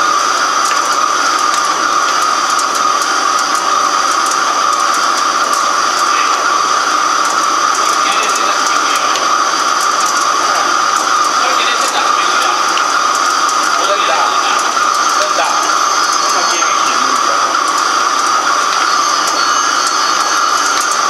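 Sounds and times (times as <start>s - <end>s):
lathe machining with high whine: 0.0s - 21.0s.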